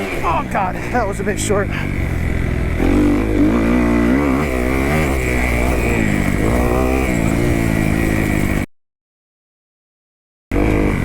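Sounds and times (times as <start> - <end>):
motocross engine revving: 0.0 - 8.7, 10.5 - 11.0.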